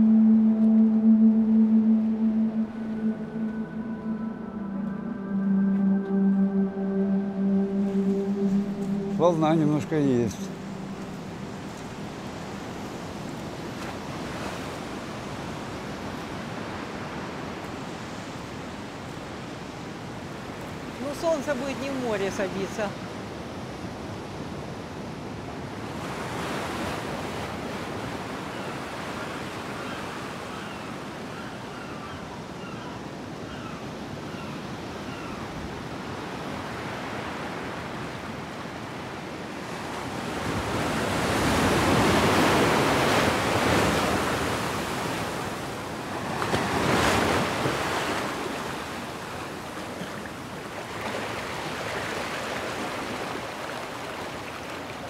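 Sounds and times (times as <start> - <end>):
waves breaking on a beach: 8.3 - 55.0.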